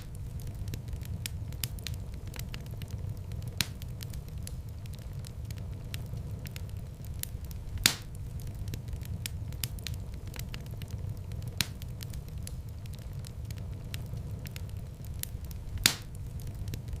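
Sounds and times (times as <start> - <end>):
loud fire pops: 0.0 - 17.0
wood fire rumbling and crackling: 0.0 - 17.0.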